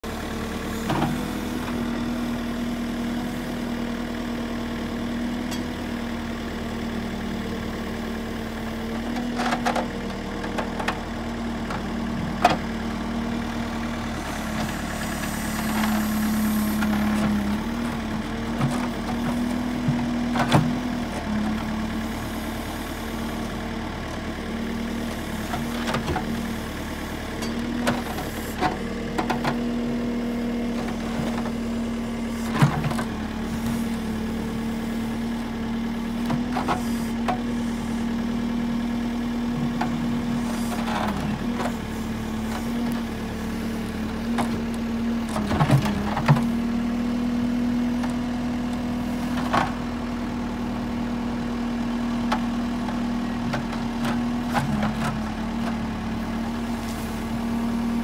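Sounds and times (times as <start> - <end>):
excavator engine humming: 0.0 - 58.0.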